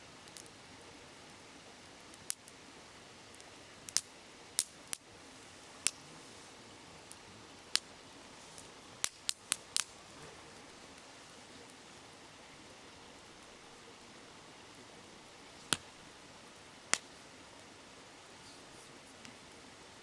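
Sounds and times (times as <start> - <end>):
babbling river: 0.0 - 20.0
campfire crackling and popping: 0.2 - 18.3.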